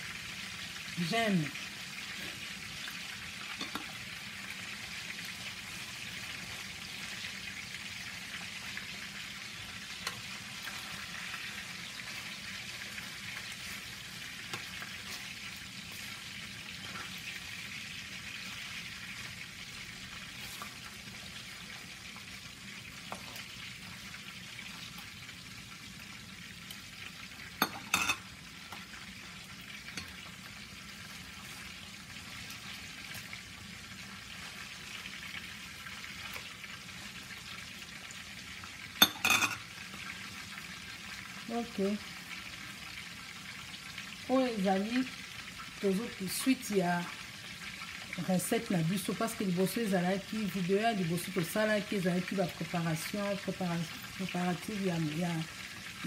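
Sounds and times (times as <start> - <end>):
fish sizzling in oil: 0.0 - 56.0.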